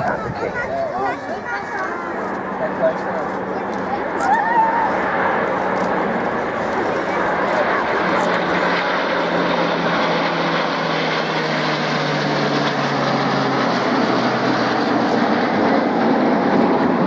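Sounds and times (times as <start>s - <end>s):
jet aircraft flypast: 0.0s - 17.0s.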